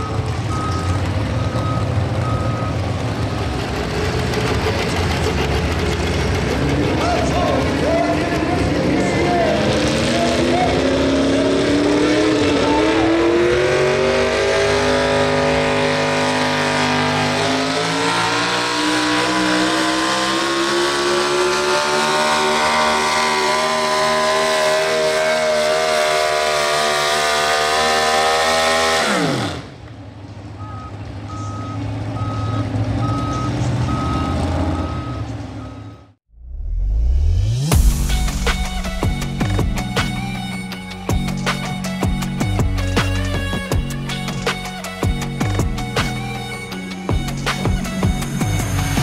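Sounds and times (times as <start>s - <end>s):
truck engine at full throttle: 0.0s - 49.0s.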